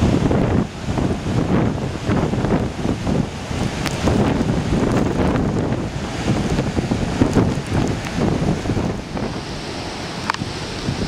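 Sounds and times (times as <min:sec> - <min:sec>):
wind gusting across microphone: 0:00.0 - 0:11.0.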